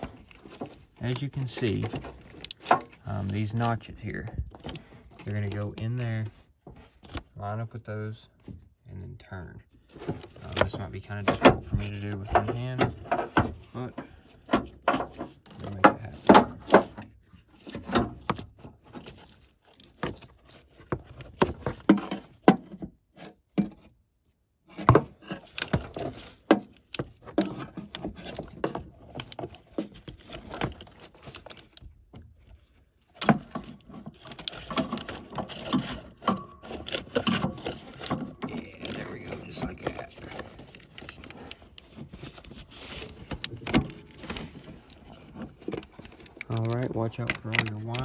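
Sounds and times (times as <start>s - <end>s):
clicks and knocks of hand work: 0.0s - 7.4s, 9.9s - 24.0s, 24.7s - 48.0s.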